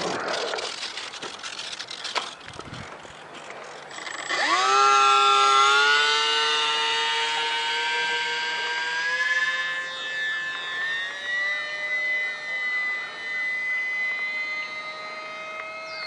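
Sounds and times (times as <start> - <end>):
electric motor and propeller whine: 0.0 - 16.0.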